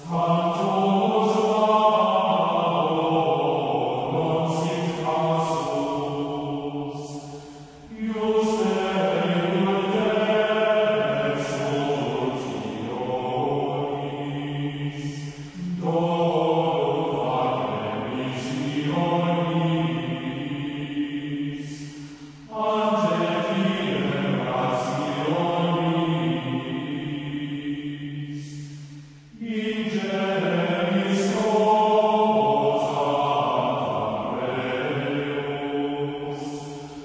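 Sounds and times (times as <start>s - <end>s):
choir chanting: 0.0s - 37.0s.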